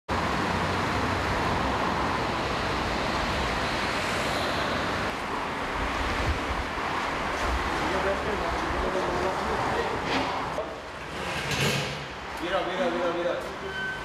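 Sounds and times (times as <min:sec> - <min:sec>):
road vehicles rumbling: 0:00.1 - 0:14.0.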